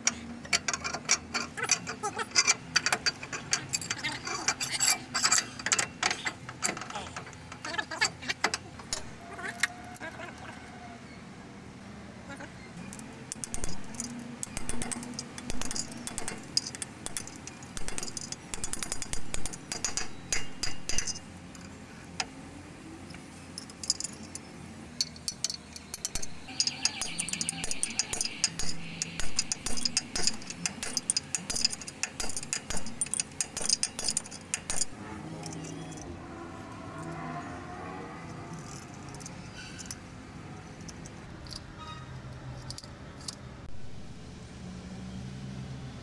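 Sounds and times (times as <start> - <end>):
metal tools clinking: 0.0 - 9.8, 12.9 - 22.3, 23.0 - 36.2, 38.2 - 43.5.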